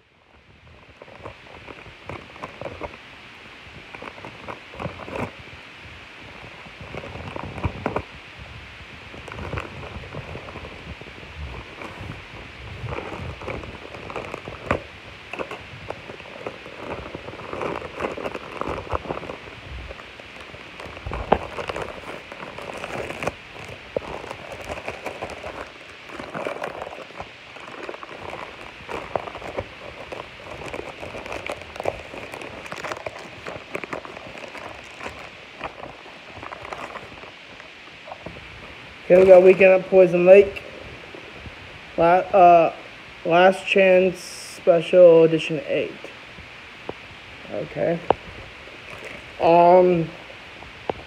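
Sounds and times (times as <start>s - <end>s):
cardboard and plastic crackling: 0.0s - 40.7s, 46.8s - 51.0s.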